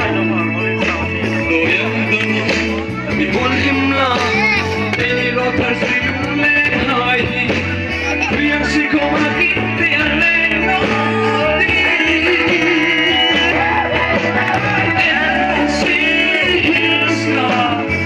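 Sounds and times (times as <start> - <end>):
amplified backing music: 0.0 - 18.0
man singing into microphone: 0.0 - 18.0.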